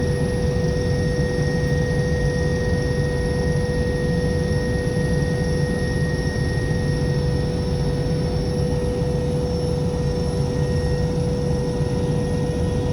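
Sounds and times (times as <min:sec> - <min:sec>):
aircraft engine drone: 0:00.0 - 0:12.9.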